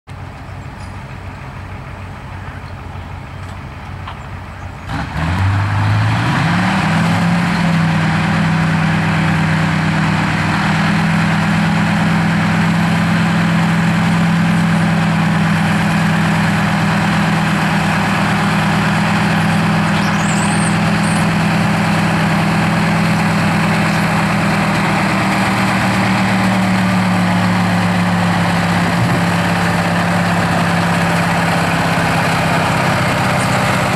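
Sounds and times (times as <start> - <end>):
diesel tractor engine revving: 0.1 - 33.9.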